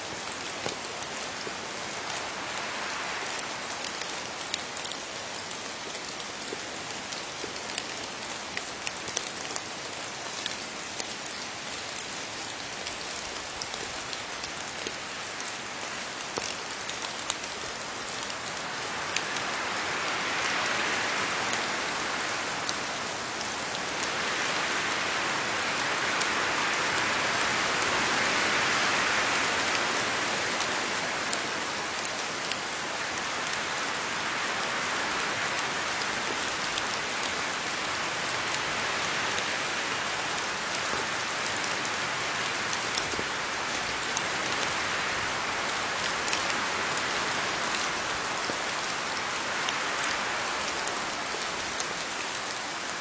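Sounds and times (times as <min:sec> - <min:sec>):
rain falling on leaves: 0:00.0 - 0:53.0.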